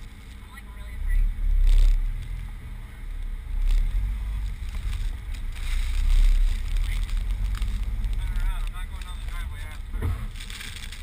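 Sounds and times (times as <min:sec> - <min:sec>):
vehicle driving on snow: 0:00.0 - 0:11.0.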